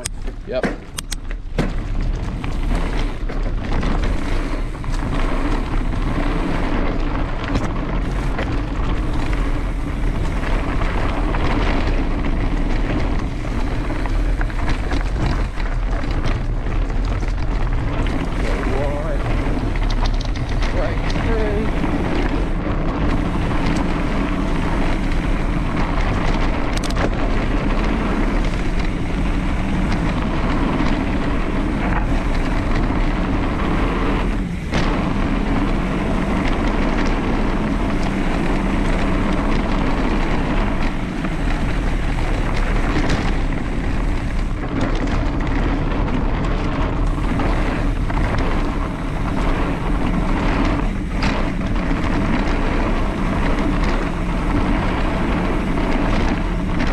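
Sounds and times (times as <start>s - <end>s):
rumble of movement: 0.0s - 56.9s
wind buffeting microphone: 0.0s - 56.9s.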